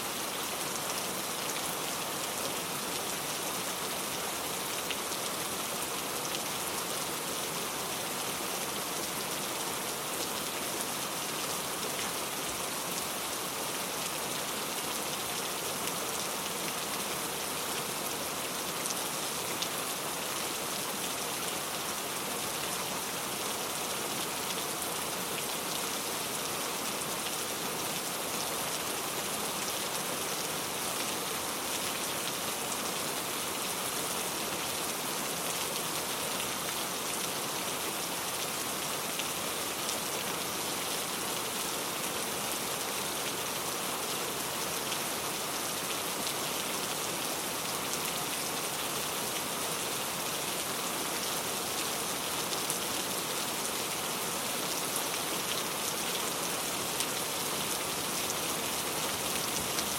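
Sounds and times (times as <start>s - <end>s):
rain hissing on a surface: 0.0s - 59.9s.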